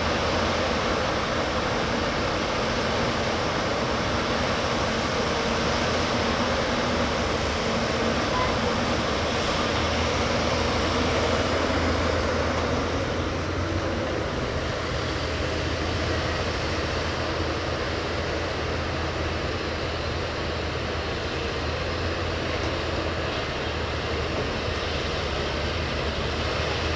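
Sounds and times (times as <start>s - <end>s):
backhoe diesel engine running: 0.0s - 26.9s.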